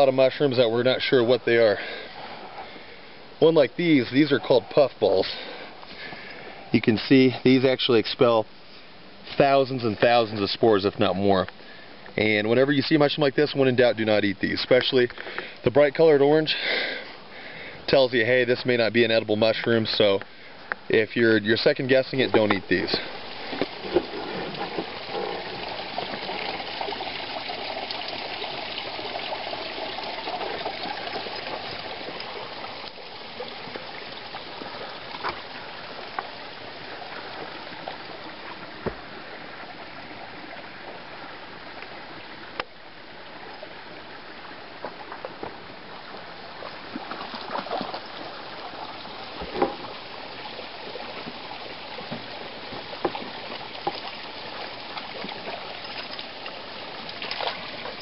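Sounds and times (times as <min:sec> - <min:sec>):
creek running: 0:00.0 - 0:58.0.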